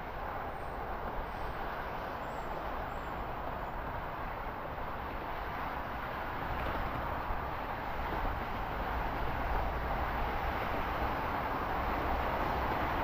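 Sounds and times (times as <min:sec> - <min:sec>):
rushing outdoor ambience: 0:00.0 - 0:13.0.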